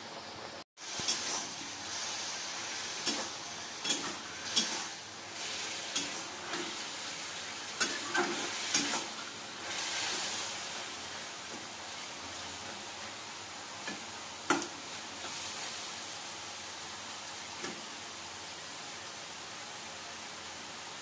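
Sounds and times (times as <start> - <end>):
mushrooms sizzling in wok: 0.8 - 21.0.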